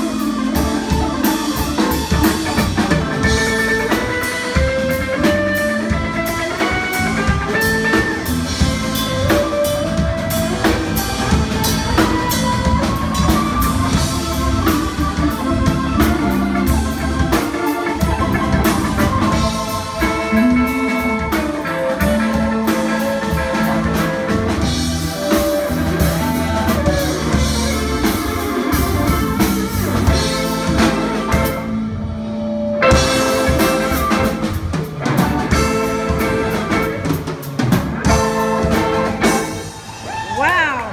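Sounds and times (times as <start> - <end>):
bass guitar: 0.0 - 40.9
drum kit: 0.0 - 40.9
electric guitar lead: 0.0 - 40.9.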